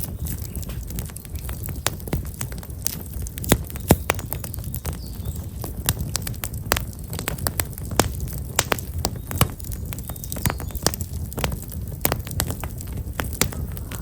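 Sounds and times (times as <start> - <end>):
firewood crackling and popping: 0.0 - 14.0
low fire rumble: 0.0 - 14.0.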